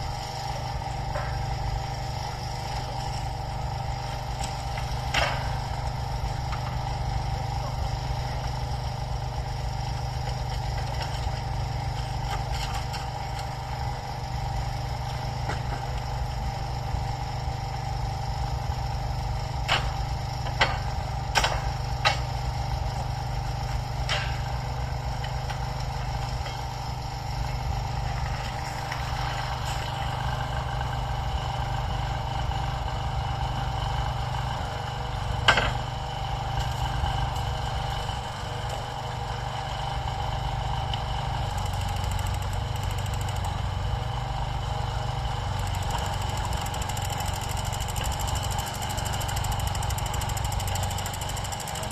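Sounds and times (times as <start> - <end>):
track maintenance machine engine running: 0.0 - 51.9.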